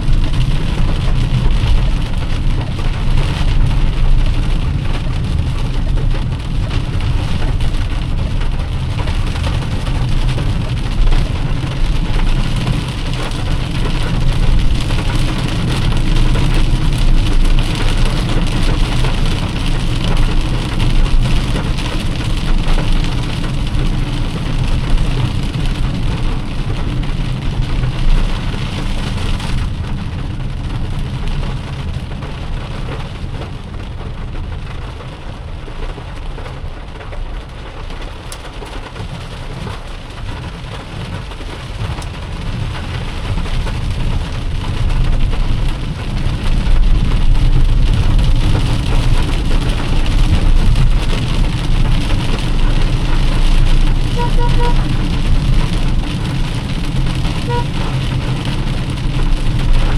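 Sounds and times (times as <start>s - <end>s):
heavy rain on a car: 0.0s - 59.9s
road and engine rumble: 0.0s - 59.9s.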